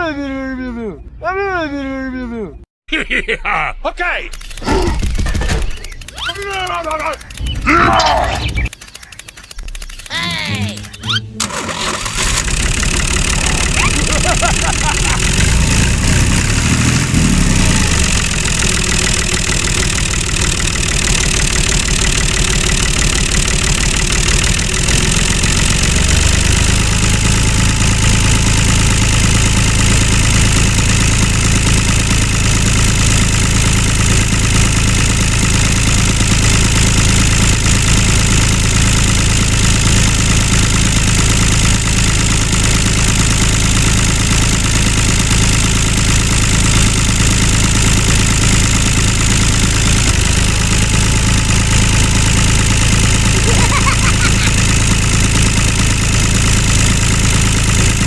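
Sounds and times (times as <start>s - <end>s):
tractor engine running: 4.3s - 58.0s.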